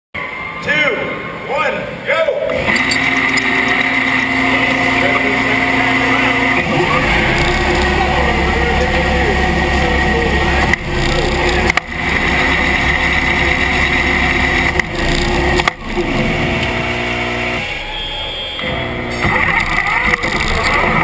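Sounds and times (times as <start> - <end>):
electric motors whirring: 2.5 - 21.0.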